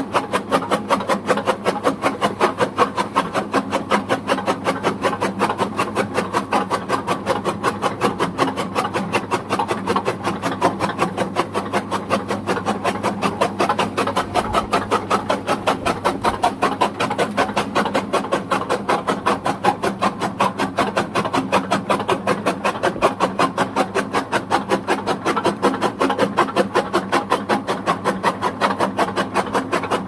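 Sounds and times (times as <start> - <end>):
chaff cutter blades chopping: 0.0 - 30.0
motor hum: 0.0 - 30.0.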